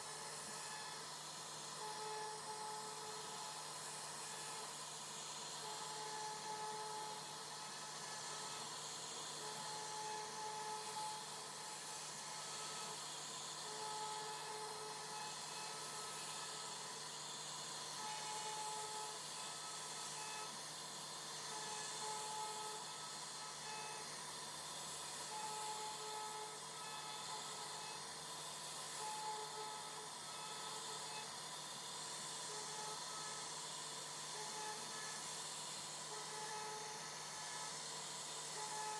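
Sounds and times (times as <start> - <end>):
router spindle high hiss: 0.0 - 38.9.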